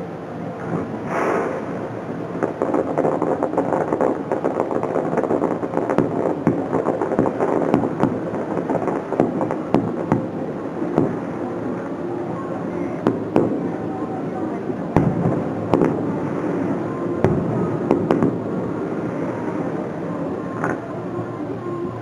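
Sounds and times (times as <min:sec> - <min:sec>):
fireworks exploding: 0:00.4 - 0:21.1
fireworks crackling pops: 0:00.5 - 0:12.0, 0:12.6 - 0:20.9.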